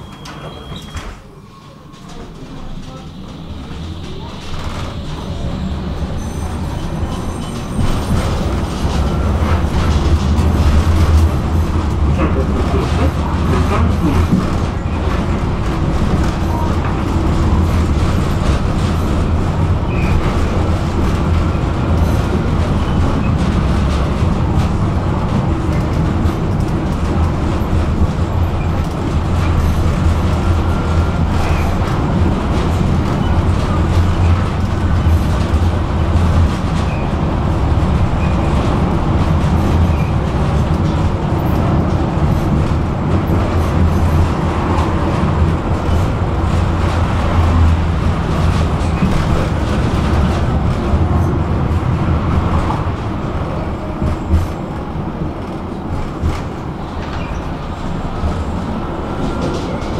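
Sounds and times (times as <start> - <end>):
tram rumbling on rails: 0.0 - 59.9.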